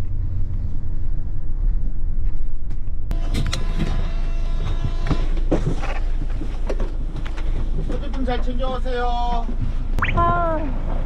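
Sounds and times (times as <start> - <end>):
bus rumble from inside: 0.0 - 11.0.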